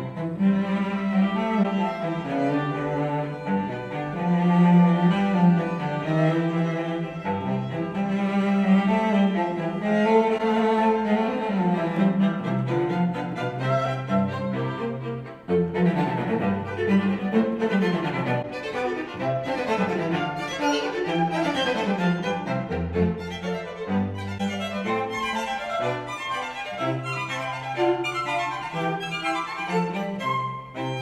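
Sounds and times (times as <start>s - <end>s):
classical string music with cello: 0.0s - 31.0s.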